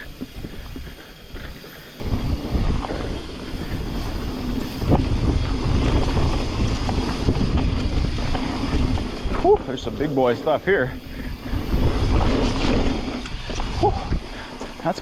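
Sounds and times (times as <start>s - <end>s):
bike tyre noise on dirt: 0.0s - 15.0s
wind buffeting microphone: 0.0s - 15.0s.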